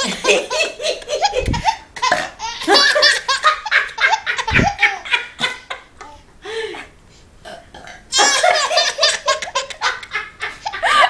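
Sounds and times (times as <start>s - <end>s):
baby laughing: 0.0s - 6.2s, 8.2s - 11.0s.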